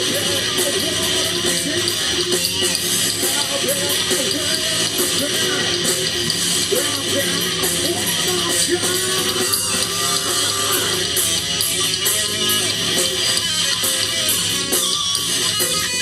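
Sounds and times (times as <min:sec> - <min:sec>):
electric guitar: 0:00.0 - 0:16.0
live rock band playing: 0:00.0 - 0:16.0.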